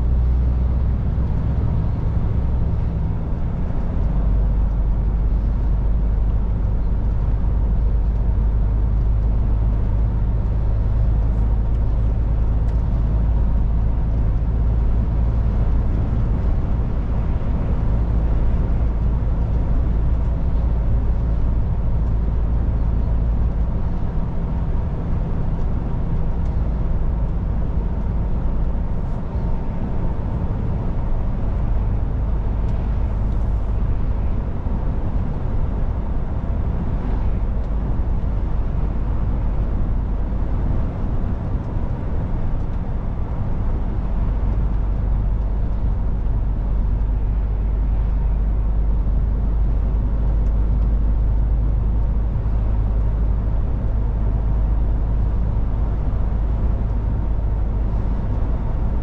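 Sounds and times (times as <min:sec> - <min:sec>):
road noise: 0:00.0 - 0:59.0
truck diesel engine drone: 0:00.0 - 0:59.0.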